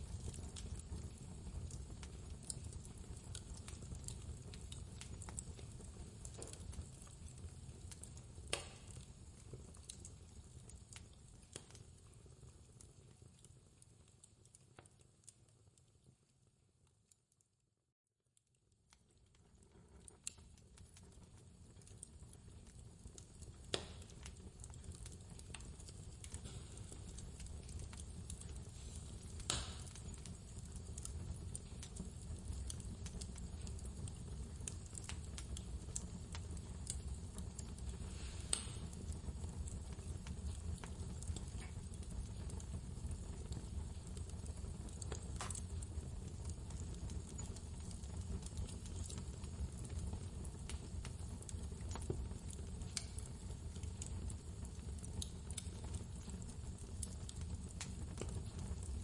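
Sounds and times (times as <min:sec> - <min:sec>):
wood fire crackling and popping: 0:00.0 - 0:17.4, 0:18.4 - 0:59.0.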